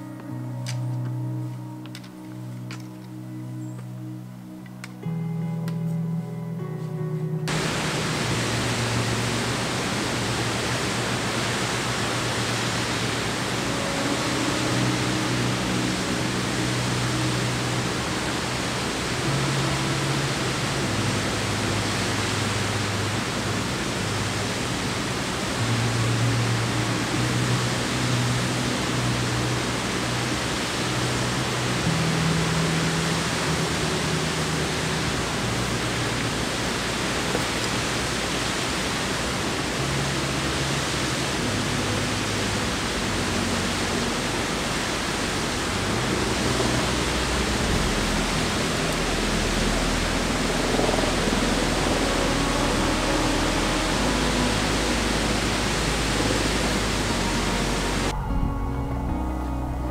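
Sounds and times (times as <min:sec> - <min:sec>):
waterfall rushing: 0:07.4 - 0:59.9.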